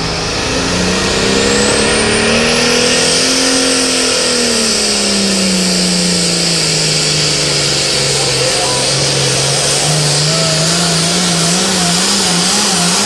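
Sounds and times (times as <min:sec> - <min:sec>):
diesel tractor engine revving: 0:00.0 - 0:13.0.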